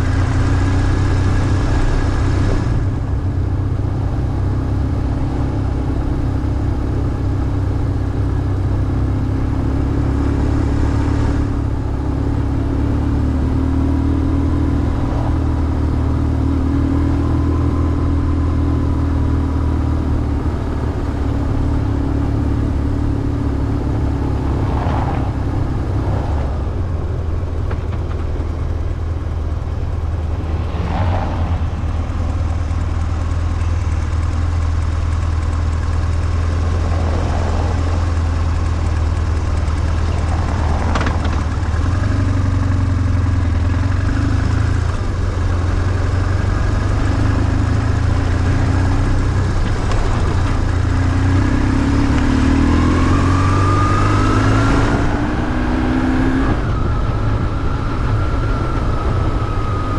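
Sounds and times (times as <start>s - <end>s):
motorcycle engine running: 0.0s - 54.4s.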